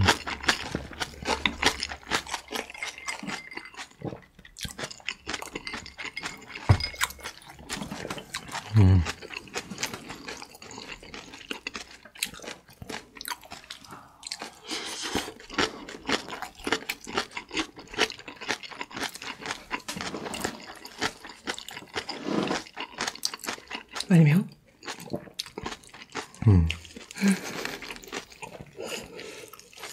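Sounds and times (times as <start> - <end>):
wet chewing: 0.0 - 24.1, 24.7 - 29.9.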